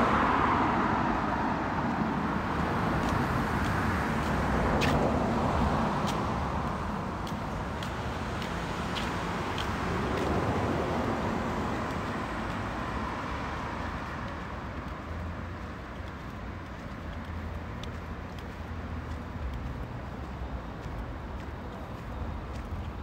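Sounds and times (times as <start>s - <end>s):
cars driving past: 0.0s - 23.0s.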